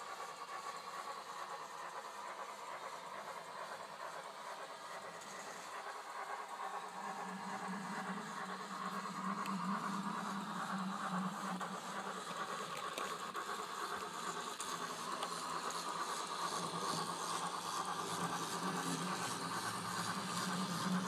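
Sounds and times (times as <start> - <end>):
model locomotive mechanical hum: 0.0 - 21.0
wheels rattling on rail: 0.0 - 21.0.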